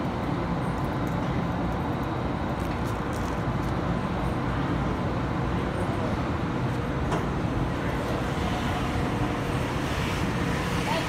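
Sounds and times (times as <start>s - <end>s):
railway platform rumble: 0.0s - 11.0s.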